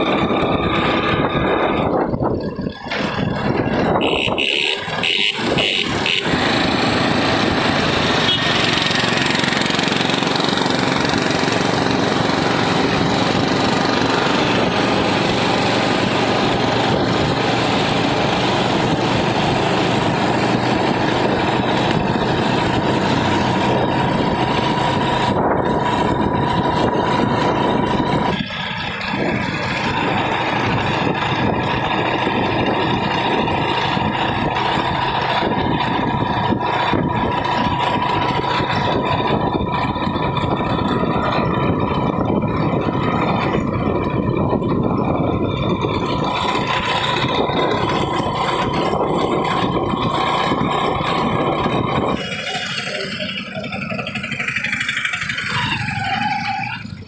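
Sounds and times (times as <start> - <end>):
engine and road noise: 0.0 - 57.0.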